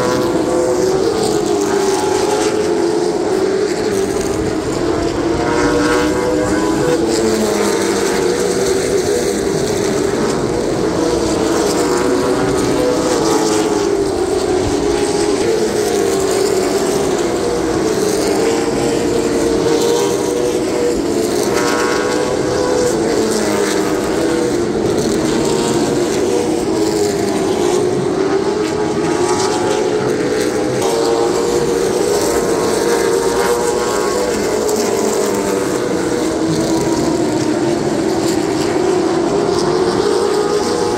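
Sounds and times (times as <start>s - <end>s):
race car engines roaring past: 0.0s - 40.9s.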